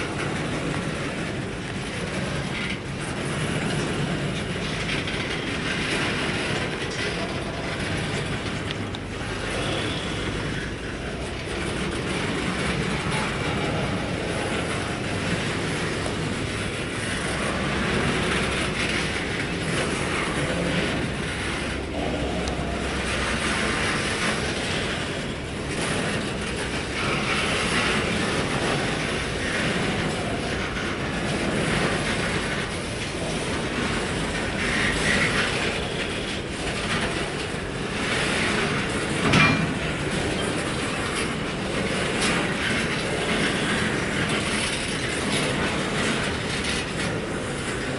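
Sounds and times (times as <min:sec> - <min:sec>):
freight train rumbling past: 0:00.0 - 0:47.9
wheels clattering over rails: 0:00.0 - 0:47.9.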